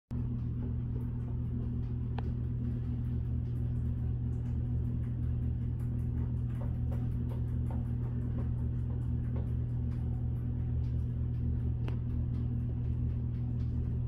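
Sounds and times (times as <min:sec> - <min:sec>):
low electrical hum: 0:00.1 - 0:14.0.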